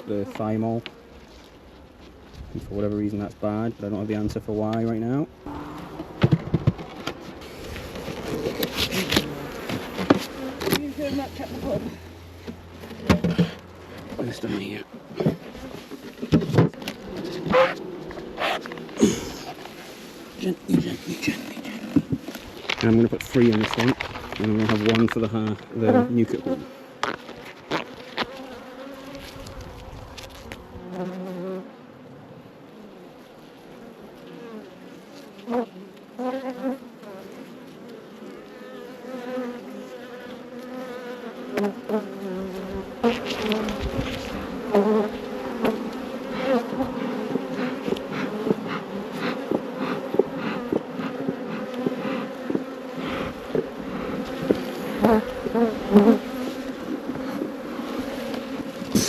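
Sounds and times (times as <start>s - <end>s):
honey bees buzzing: 5.0s - 31.9s, 32.6s - 59.0s.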